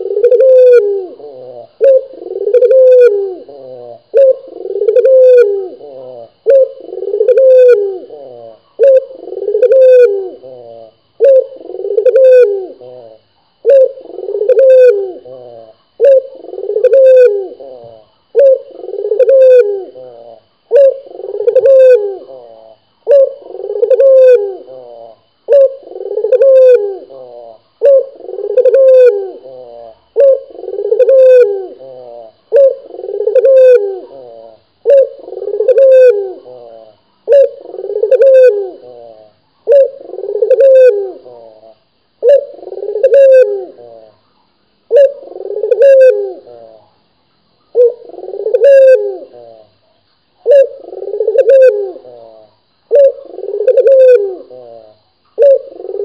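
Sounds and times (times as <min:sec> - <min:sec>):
dove cooing: 0:00.0 - 0:44.2, 0:44.9 - 0:46.9, 0:47.7 - 0:49.8, 0:50.4 - 0:56.0.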